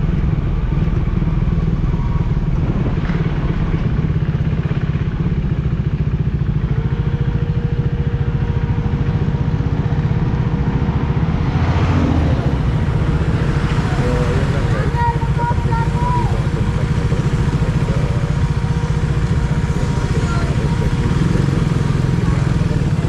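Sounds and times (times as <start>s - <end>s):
motorcycle engine running: 0.0s - 23.0s
road noise: 0.0s - 23.0s.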